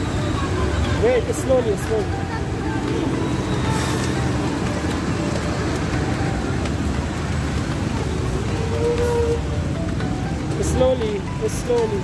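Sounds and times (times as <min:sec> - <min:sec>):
traffic on wet street: 0:00.0 - 0:12.0.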